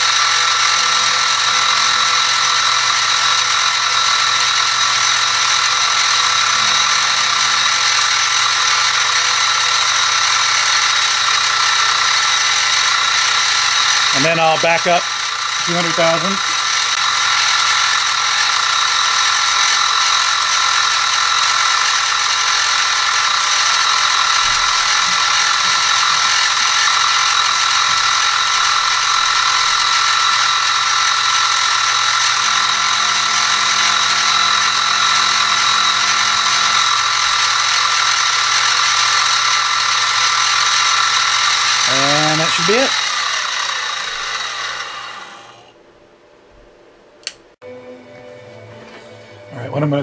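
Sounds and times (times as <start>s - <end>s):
milling machine whining while cutting metal: 0.0s - 45.8s.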